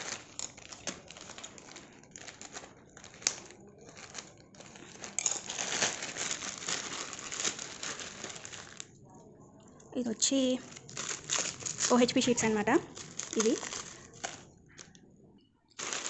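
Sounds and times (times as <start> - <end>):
plastic bag crinkling: 0.0 - 8.9, 10.2 - 15.0, 15.8 - 16.0.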